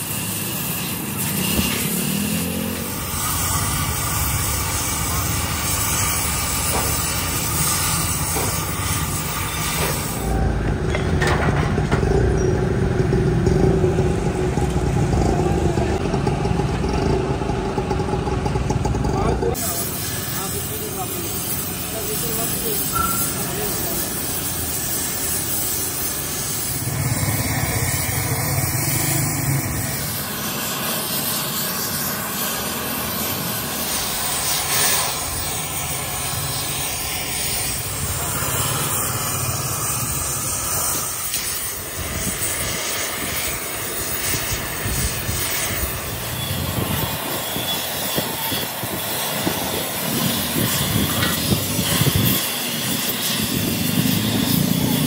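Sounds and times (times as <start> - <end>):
welding torch flame hissing: 0.0 - 55.0.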